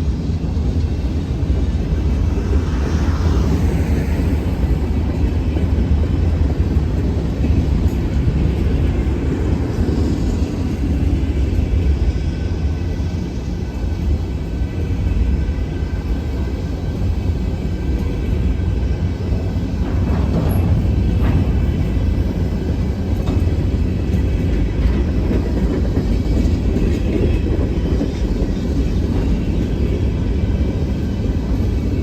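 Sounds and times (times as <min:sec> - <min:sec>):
freight train rumbling past: 0:00.0 - 0:32.0.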